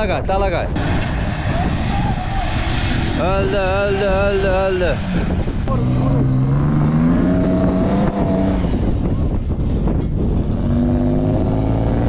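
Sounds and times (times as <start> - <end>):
engine revving hard: 0.7 - 9.2, 10.3 - 12.0.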